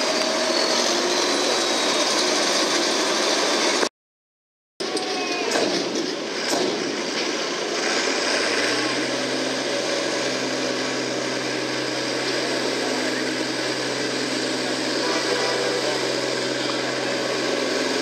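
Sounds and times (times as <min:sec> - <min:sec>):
tractor diesel engine under load: 0:00.0 - 0:03.9, 0:04.8 - 0:18.0.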